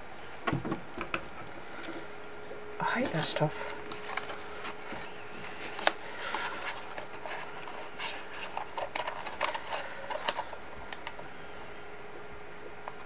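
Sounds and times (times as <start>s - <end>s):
faint steady hum: 0.0s - 13.0s
cardstock rustling and crinkling: 0.2s - 11.3s.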